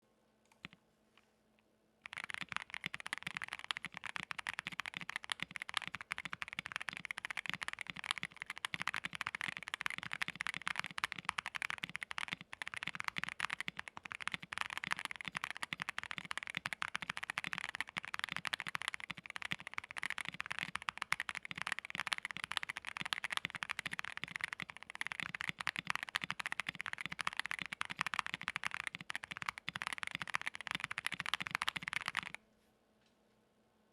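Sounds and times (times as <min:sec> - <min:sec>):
fast typing on mechanical keyboard: 0:02.0 - 0:32.4.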